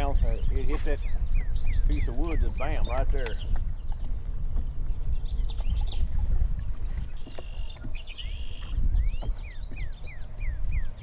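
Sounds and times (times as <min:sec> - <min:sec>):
bird calling: 0:00.0 - 0:11.0
wind buffeting microphone: 0:00.0 - 0:11.0.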